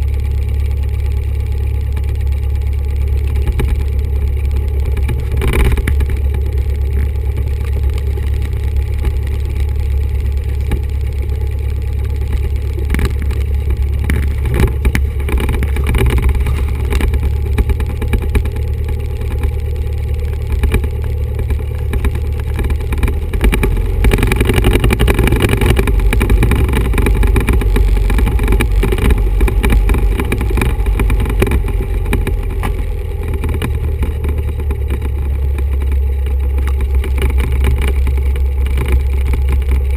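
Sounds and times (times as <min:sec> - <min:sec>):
light aircraft engine rumble: 0:00.0 - 0:39.9.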